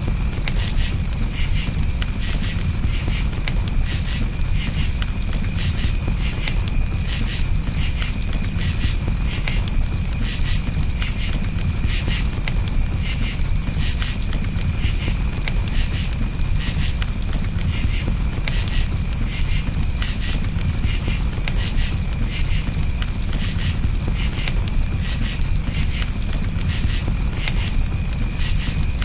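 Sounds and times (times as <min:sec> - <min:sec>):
campfire crackling and popping: 0:00.0 - 0:29.0
crickets chirping: 0:00.0 - 0:29.0.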